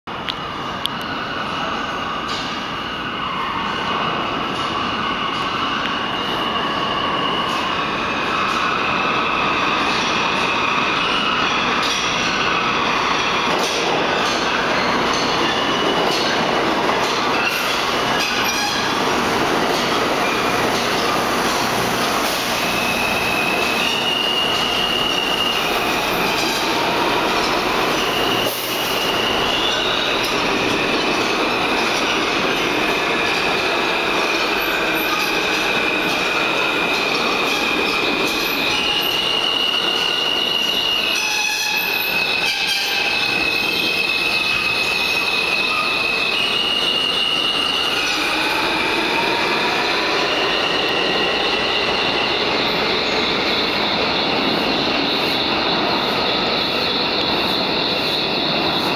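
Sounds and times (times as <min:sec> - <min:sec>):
subway train wheels rumbling: 0:00.1 - 0:58.9
high wheel squeal: 0:01.0 - 0:58.9.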